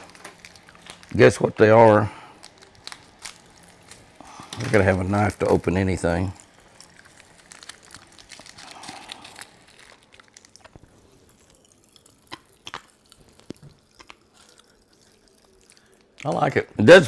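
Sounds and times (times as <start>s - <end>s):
plastic packet crinkling: 0.0s - 16.7s.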